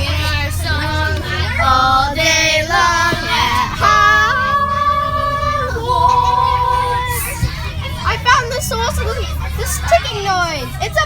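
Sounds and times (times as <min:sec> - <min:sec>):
bus humming: 0:00.0 - 0:11.0
voices singing long notes: 0:00.0 - 0:11.0.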